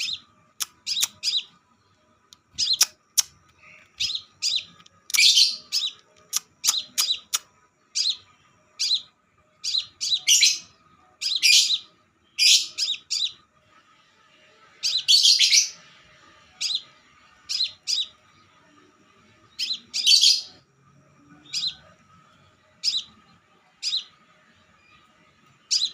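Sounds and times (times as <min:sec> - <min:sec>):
bird chirping and twittering: 0:00.0 - 0:13.5, 0:14.8 - 0:20.6, 0:21.2 - 0:25.9.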